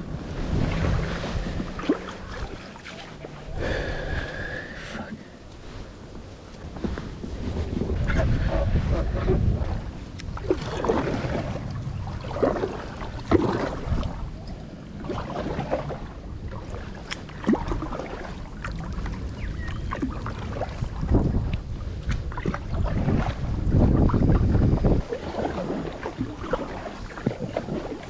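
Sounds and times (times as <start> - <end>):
paddle splashing in water: 0.0 - 4.7, 6.7 - 14.4, 15.0 - 28.0
wind rumble on microphone: 0.0 - 28.0.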